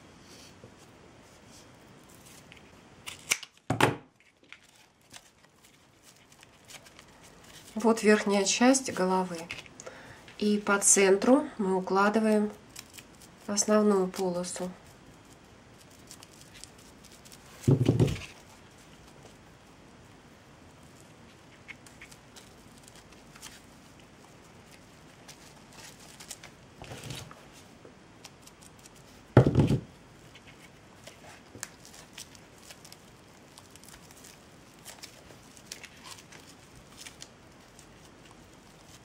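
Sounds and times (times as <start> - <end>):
jute strips rustling: 1.2 - 39.0.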